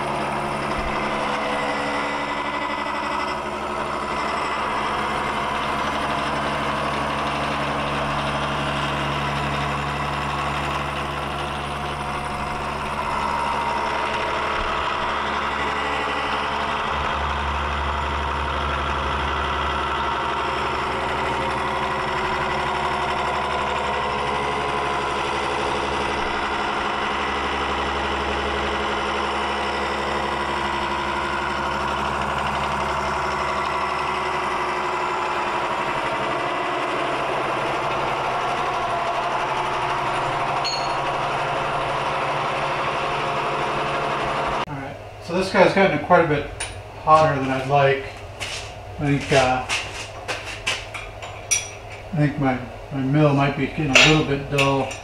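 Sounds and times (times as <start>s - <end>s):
grinding cutting noise: 0.0s - 55.0s
milling machine hum: 0.0s - 55.0s.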